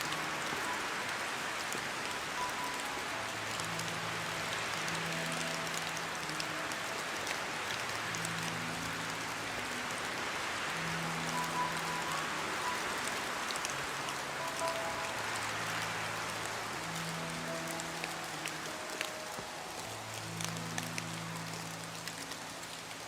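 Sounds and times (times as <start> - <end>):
hard rain hissing: 0.0 - 23.0
soft music with low notes: 0.0 - 23.0.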